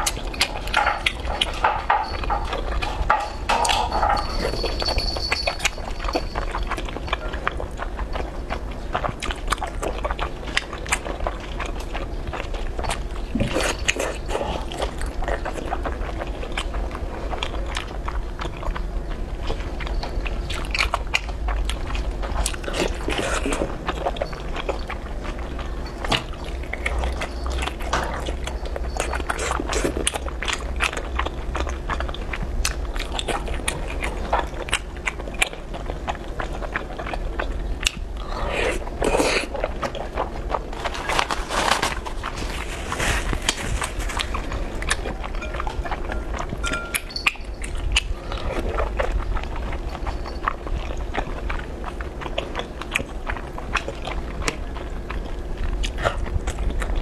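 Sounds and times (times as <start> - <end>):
low steady hum: 0.0 - 57.0
slurping and chewing noodles: 0.0 - 57.0.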